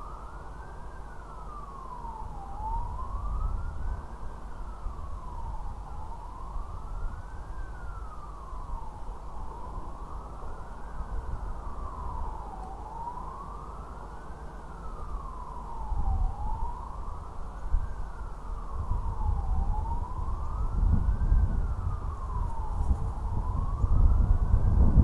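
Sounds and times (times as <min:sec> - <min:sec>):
siren wailing: 0:00.0 - 0:25.0.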